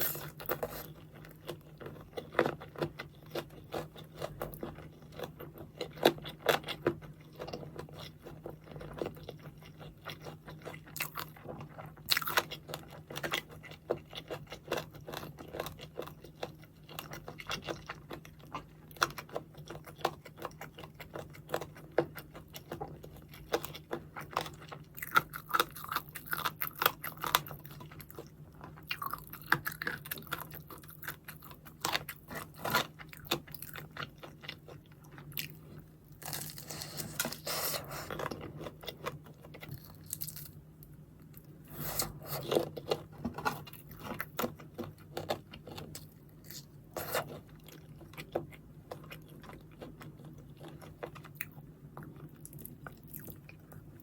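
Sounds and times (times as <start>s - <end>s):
crunchy chewing of fried chicken: 0.0s - 54.0s
faint steady hum: 0.0s - 54.0s.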